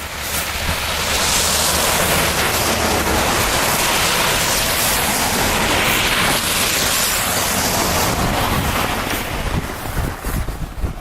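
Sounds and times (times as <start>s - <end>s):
wind on microphone: 0.4s - 11.0s.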